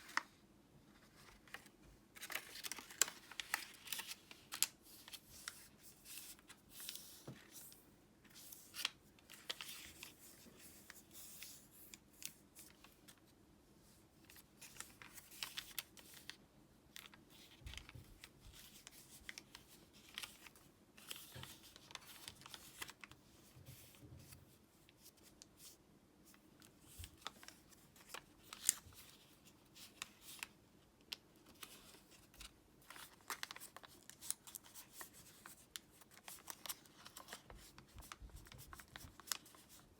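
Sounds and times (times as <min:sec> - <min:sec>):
paper rustling and crinkling: 0:00.0 - 0:13.3, 0:14.2 - 0:39.9.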